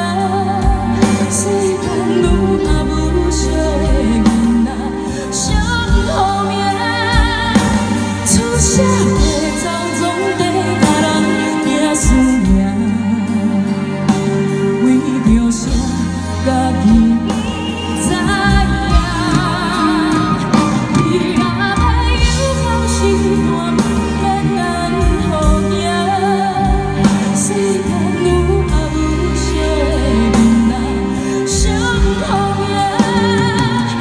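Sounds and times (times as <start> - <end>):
live pop band: 0.0 - 34.0
woman singing with vibrato: 0.0 - 34.0.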